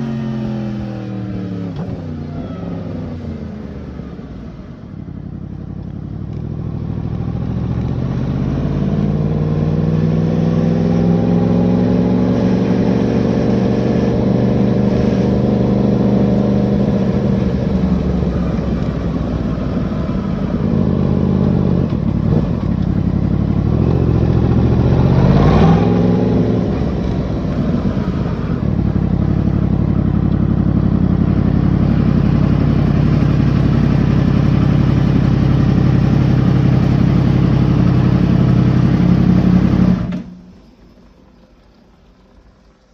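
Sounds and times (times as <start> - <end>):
motorcycle engine revving: 0.0 - 40.6.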